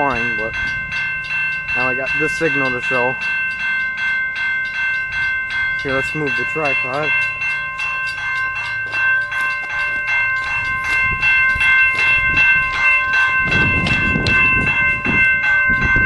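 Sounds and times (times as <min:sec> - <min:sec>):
railroad crossing bell ringing: 0:00.0 - 0:16.0
train cars rolling on rails: 0:00.0 - 0:16.0.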